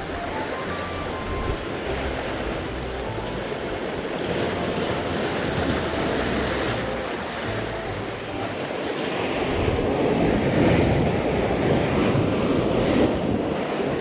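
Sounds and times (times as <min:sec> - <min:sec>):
sea waves washing at shore: 0:00.0 - 0:14.0
wind buffeting microphone: 0:00.0 - 0:14.0.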